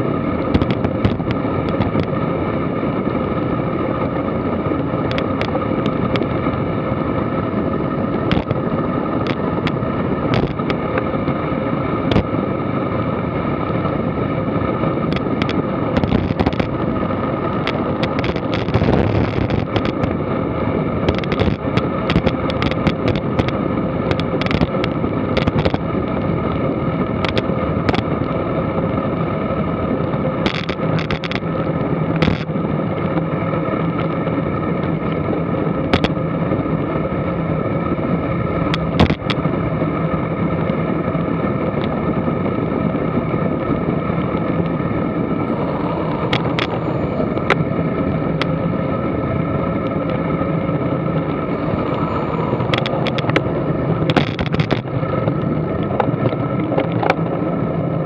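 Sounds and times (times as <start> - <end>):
wind rushing over camera: 0.0 - 58.0.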